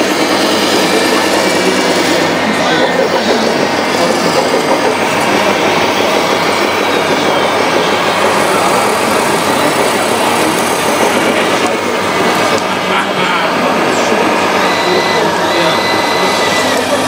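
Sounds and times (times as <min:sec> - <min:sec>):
model trucks whirring and rattling: 0:00.0 - 0:17.0.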